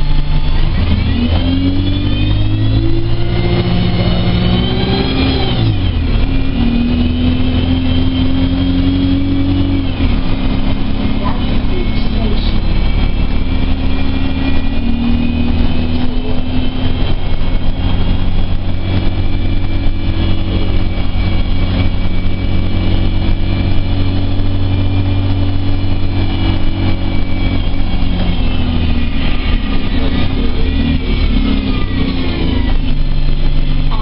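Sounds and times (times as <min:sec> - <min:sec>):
bus engine drone and whine: 0:00.0 - 0:34.0.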